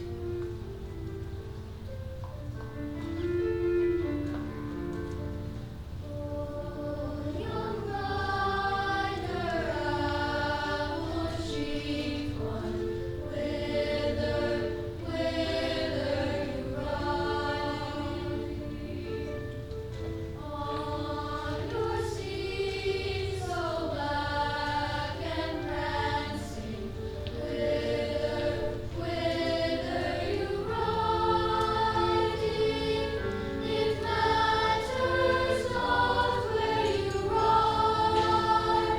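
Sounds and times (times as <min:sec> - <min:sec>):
piano accompaniment: 0:00.0 - 0:38.9
youth choir singing: 0:06.1 - 0:19.5, 0:20.3 - 0:38.9.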